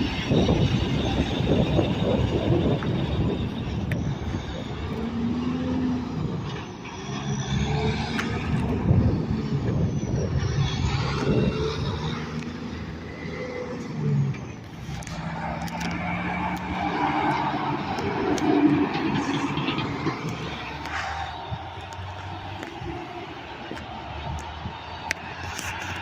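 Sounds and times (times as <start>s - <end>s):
cars and trucks passing: 0.0s - 26.0s
tyre and road noise: 0.0s - 26.0s.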